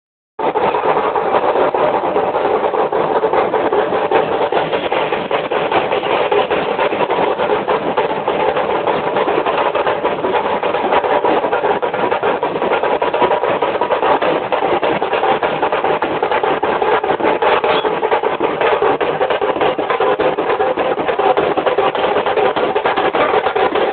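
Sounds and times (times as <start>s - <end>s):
packed street crowd din: 0.4s - 23.9s.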